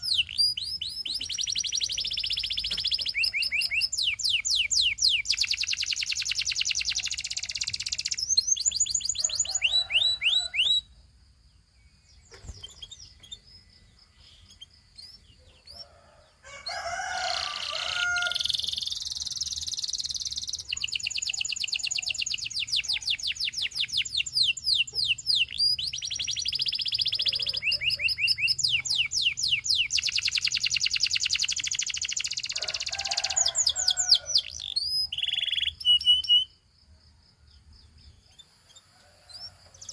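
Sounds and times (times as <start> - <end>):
canary singing trills: 0.0 - 11.0, 11.9 - 36.7, 37.8 - 39.9.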